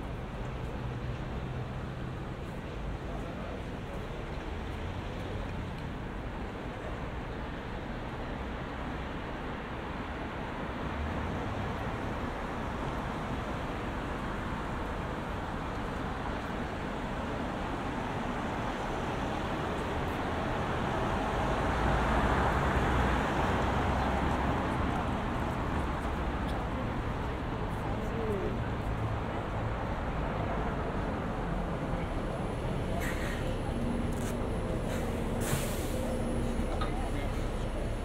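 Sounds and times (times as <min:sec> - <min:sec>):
road traffic rumbling: 0:00.0 - 0:38.0.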